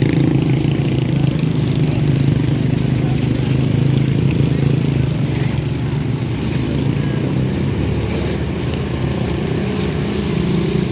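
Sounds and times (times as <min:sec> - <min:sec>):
heavy diesel engine running: 0:00.0 - 0:10.9.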